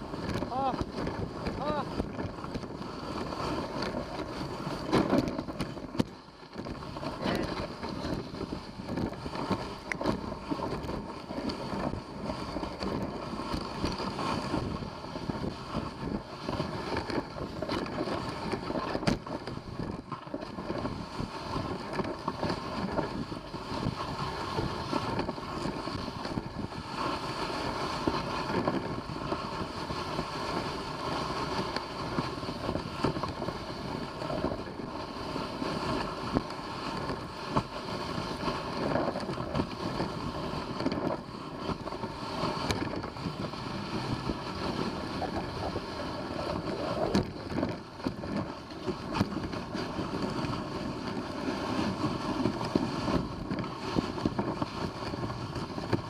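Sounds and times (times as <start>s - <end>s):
sled rushing noise: 0.0s - 56.0s
wind on microphone: 0.0s - 56.0s.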